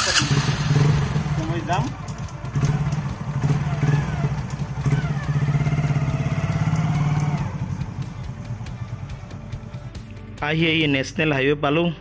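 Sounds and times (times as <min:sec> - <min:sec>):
motorcycle engine pulling away: 0:00.0 - 0:09.7.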